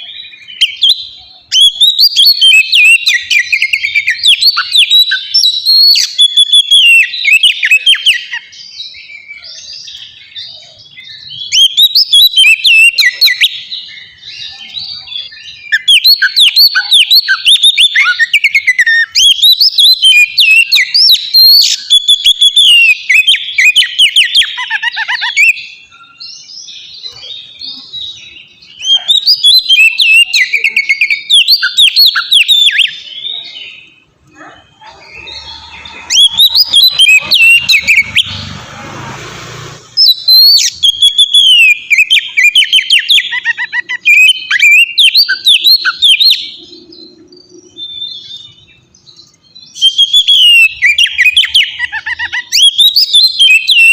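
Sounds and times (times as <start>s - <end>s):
bird singing whistled notes: 0.0s - 38.6s, 39.8s - 53.9s.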